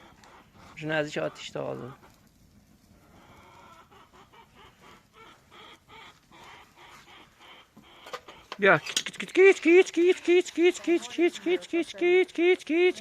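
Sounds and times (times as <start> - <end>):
chickens clucking faintly: 0.0 - 13.0.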